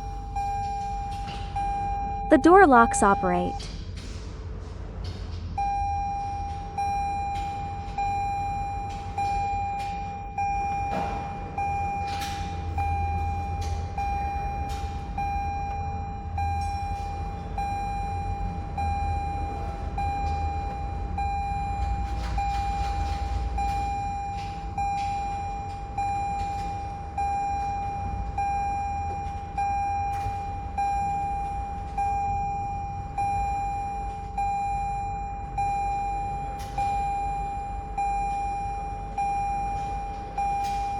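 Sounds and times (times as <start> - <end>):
car warning chime dinging: 5.6 - 40.9.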